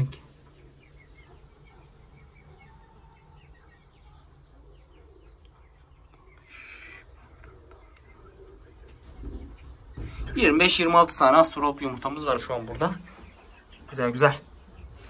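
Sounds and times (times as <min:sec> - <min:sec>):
bird chirps: 0:00.0 - 0:15.0.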